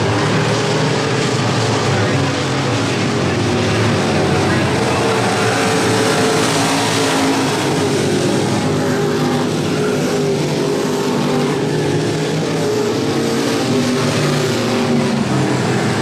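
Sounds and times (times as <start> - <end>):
race car engines droning: 0.0 - 16.0.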